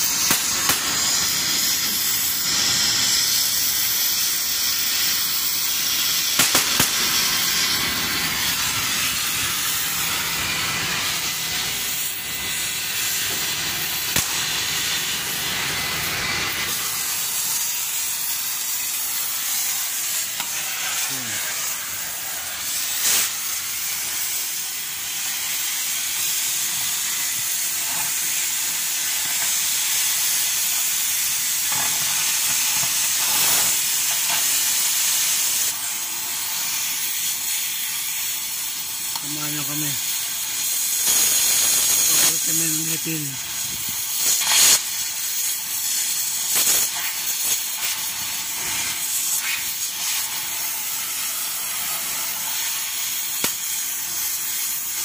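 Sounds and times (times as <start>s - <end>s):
welding arc crackling: 0.0s - 55.0s.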